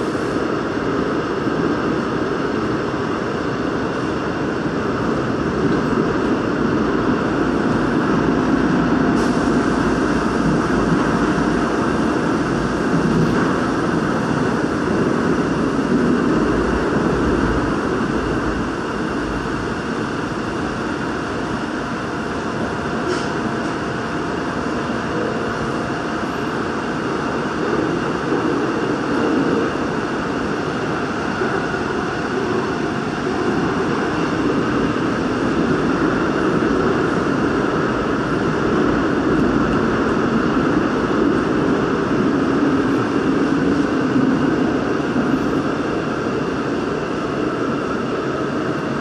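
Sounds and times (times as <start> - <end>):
subway train wheels rumbling on rail: 0.0 - 49.0.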